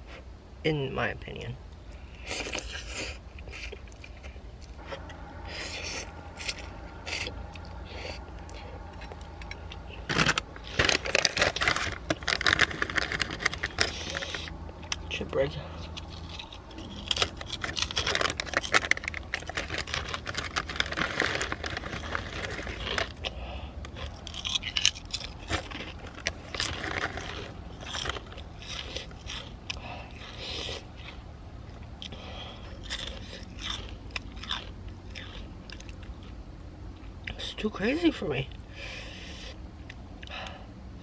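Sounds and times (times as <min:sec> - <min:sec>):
person chewing crunchy food: 0:01.9 - 0:37.4.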